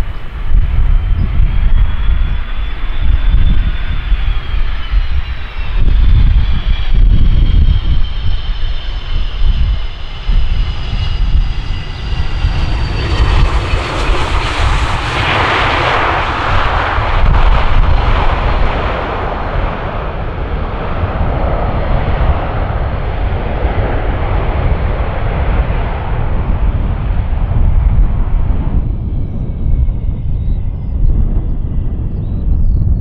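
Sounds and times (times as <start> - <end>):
jet reverse thrust roar: 0.0 - 32.2
jet engine whine: 0.0 - 33.0.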